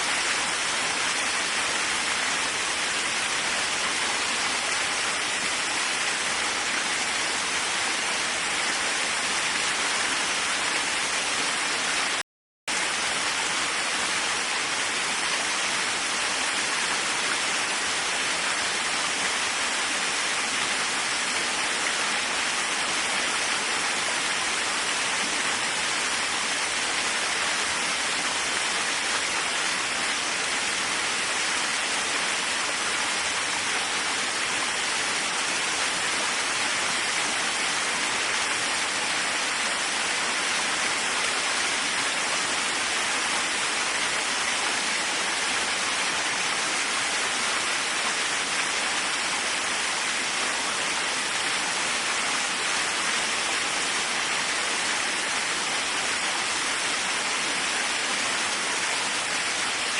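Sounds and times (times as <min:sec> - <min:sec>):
waterfall hissing: 0:00.0 - 0:59.9.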